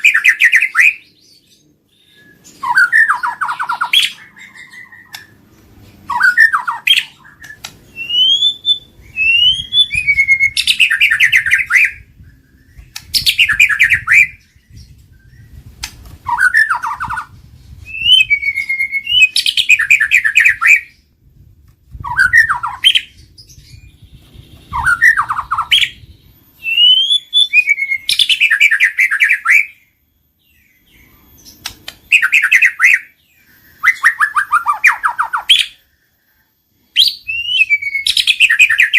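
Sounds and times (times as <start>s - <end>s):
songbird whistles and trills: 0.0s - 38.9s.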